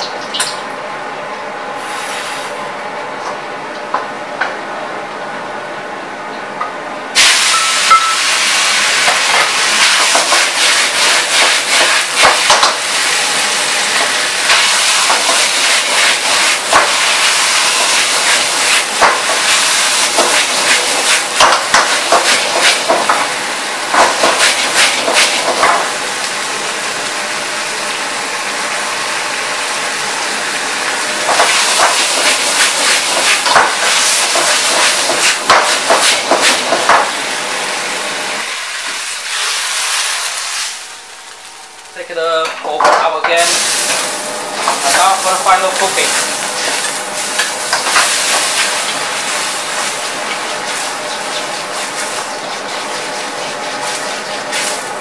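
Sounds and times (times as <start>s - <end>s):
noodles sizzling in a wok: 7.2s - 41.9s, 43.4s - 55.0s.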